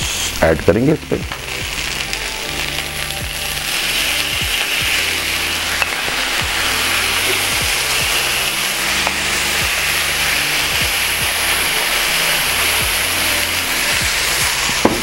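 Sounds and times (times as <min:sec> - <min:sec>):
food sizzling on hot plate: 0:00.0 - 0:15.0.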